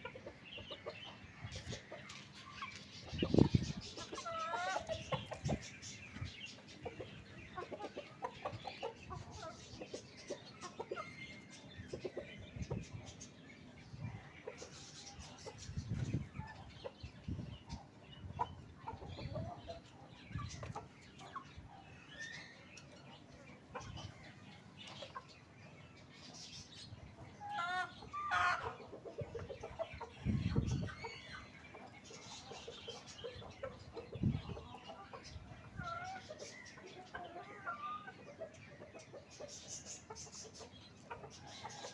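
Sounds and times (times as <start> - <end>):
chickens clucking and calling: 0.0 - 41.9.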